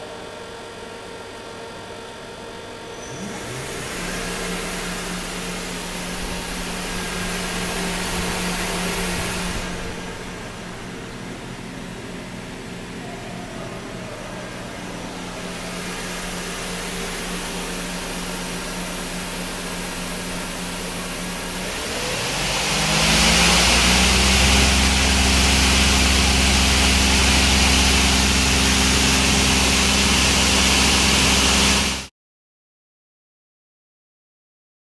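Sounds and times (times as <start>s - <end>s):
lathe humming: 0.0s - 32.1s
spindle whine: 1.6s - 32.0s.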